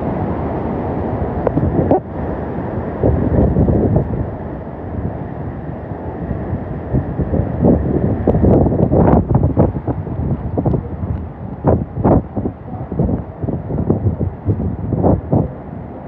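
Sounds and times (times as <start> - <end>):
strong wind gusting against microphone: 0.0 - 16.0.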